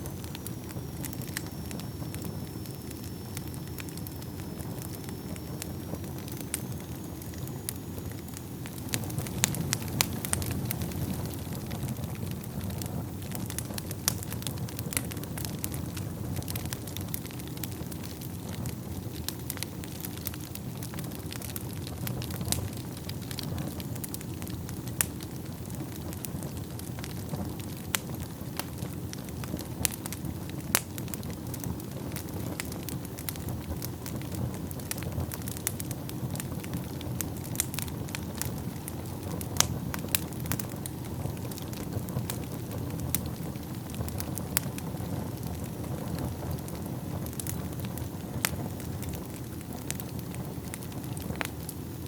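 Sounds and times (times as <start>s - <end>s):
fire burning in a fireplace: 0.0s - 52.0s
fire crackling and popping: 0.0s - 52.0s.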